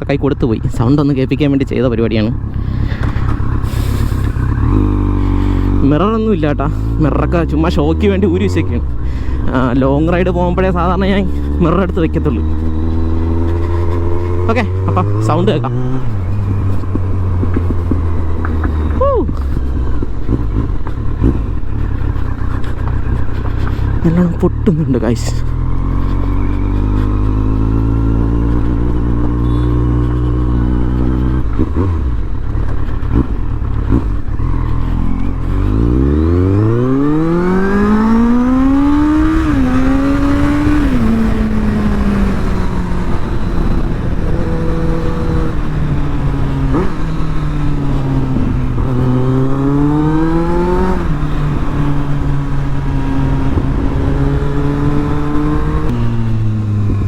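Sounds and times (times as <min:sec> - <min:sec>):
motorcycle engine revving: 0:02.1 - 0:57.0.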